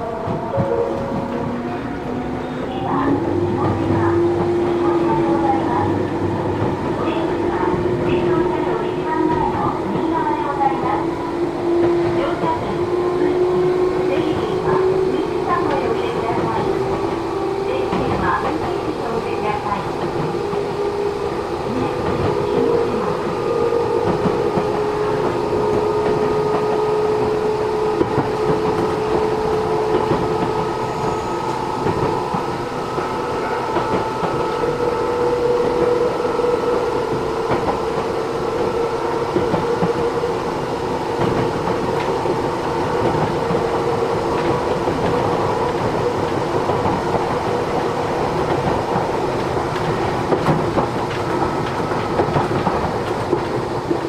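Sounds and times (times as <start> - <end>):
electric train running: 0.0 - 54.0.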